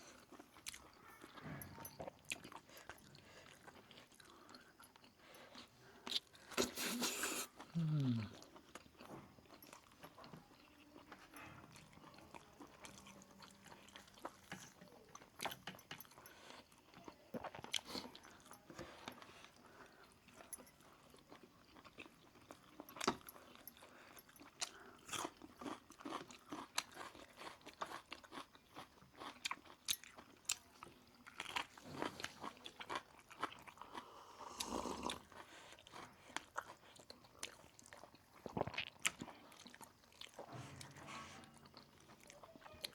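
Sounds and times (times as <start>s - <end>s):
person chewing and crunching food: 0.0s - 42.9s.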